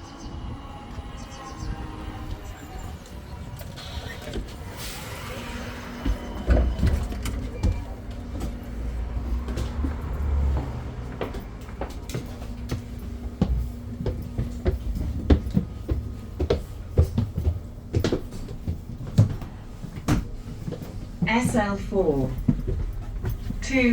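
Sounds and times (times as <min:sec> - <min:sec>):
bus rumble and hum: 0:00.0 - 0:23.9
bus body rattling and knocking: 0:03.4 - 0:23.9.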